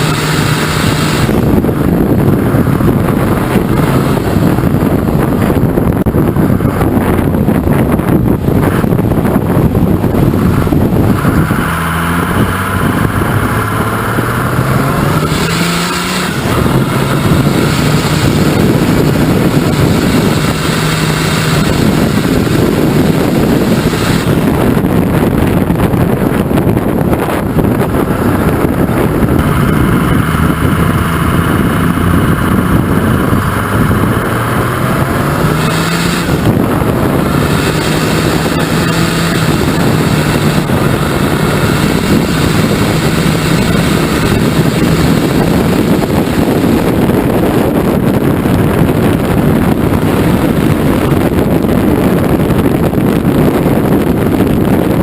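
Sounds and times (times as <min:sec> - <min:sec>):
diesel truck engine revving: 0:00.0 - 0:55.0
high turbo whine: 0:00.0 - 0:55.0.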